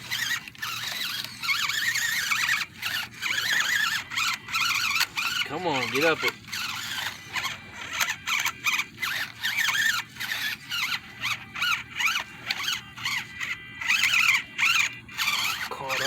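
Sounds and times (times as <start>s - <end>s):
toy truck motor whining: 0.0s - 16.0s.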